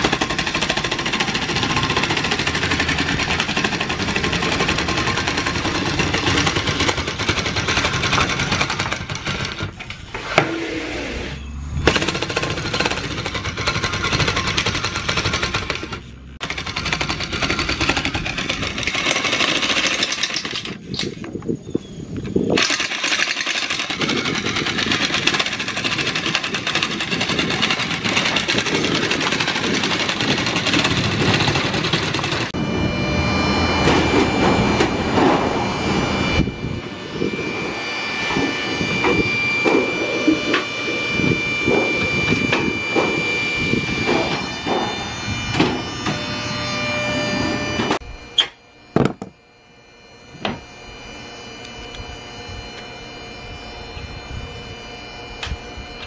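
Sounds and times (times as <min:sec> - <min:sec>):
electric metal tool chattering: 0:00.0 - 0:21.3, 0:22.3 - 0:32.7, 0:33.8 - 0:49.4
roll former machine droning: 0:00.0 - 0:56.0.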